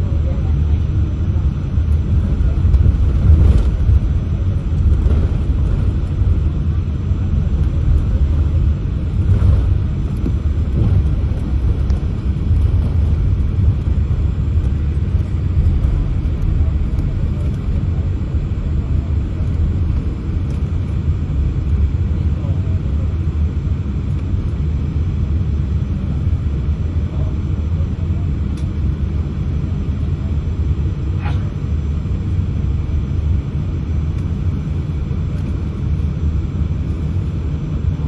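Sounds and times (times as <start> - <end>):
aircraft engines low rumble: 0.0 - 38.0.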